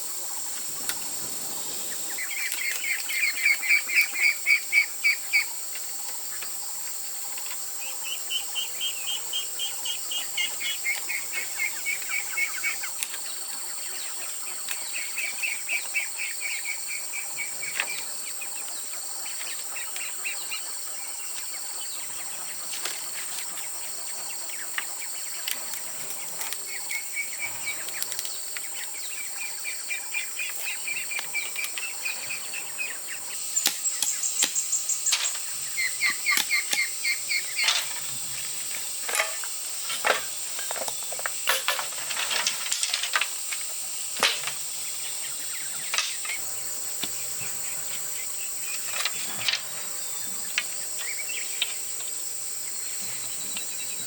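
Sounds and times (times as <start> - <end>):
birds trilling: 0.0 - 54.0
insects buzzing: 0.0 - 54.0.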